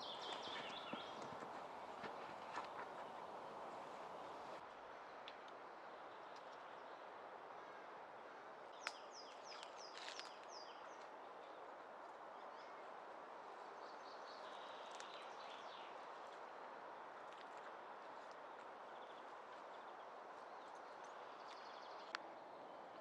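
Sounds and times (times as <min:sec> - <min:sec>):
faint forest ambience hiss: 0:00.0 - 0:23.0.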